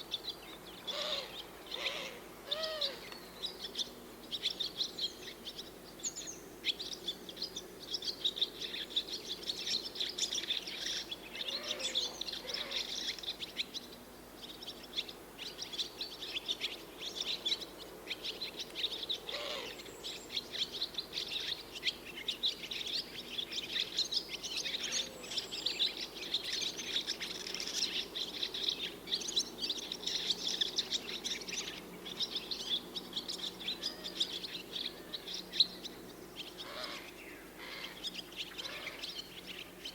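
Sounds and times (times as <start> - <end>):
faint low background hum: 0.0 - 39.9
swallows twittering: 0.0 - 39.9.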